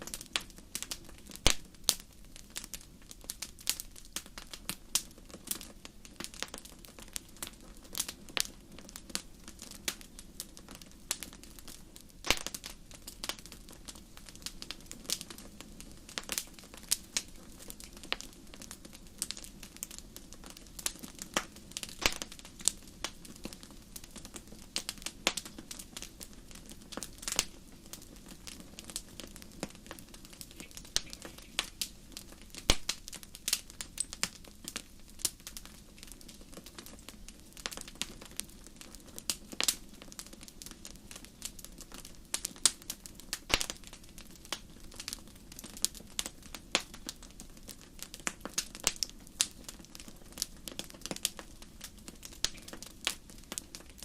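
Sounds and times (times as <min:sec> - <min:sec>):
low hiss of burning: 0:00.0 - 0:54.0
wood fire crackling: 0:00.0 - 0:54.0.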